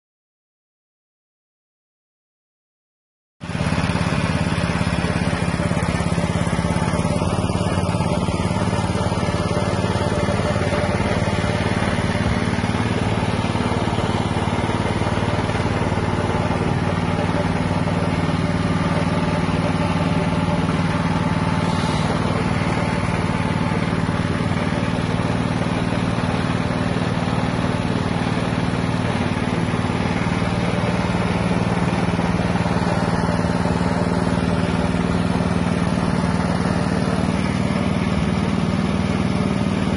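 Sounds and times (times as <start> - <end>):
small petrol engine running: 3.4 - 39.9.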